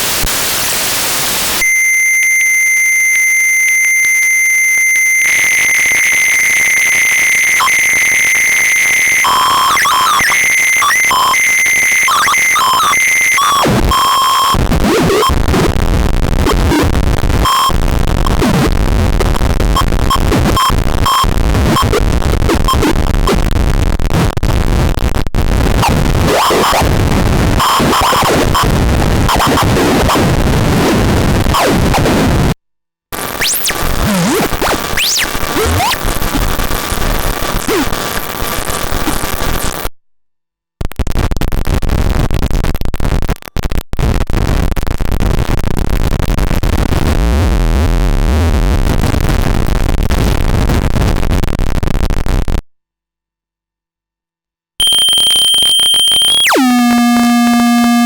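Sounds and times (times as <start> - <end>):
harsh crackling synth noise: 0.0 - 1.6, 4.2 - 32.6, 33.2 - 39.8, 44.0 - 52.6, 54.8 - 58.0
buzzy square-wave tone: 0.0 - 32.6, 33.2 - 39.8, 44.0 - 52.6, 54.8 - 58.0.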